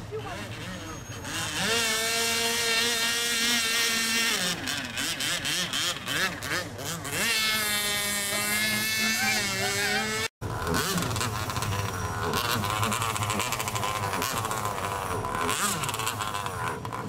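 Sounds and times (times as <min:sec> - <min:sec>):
model speedboat engine high revs: 0:00.0 - 0:17.0.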